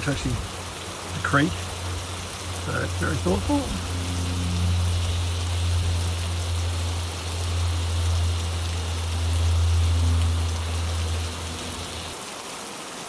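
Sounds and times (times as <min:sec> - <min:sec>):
steady low hum: 0:00.0 - 0:12.2
creek water running: 0:00.0 - 0:13.0.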